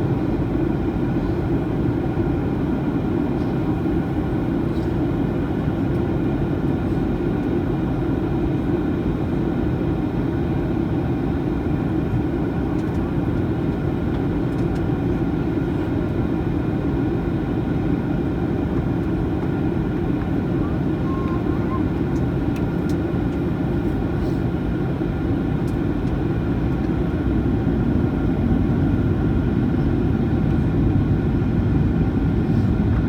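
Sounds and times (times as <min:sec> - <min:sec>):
airplane cabin drone: 0:00.0 - 0:33.0.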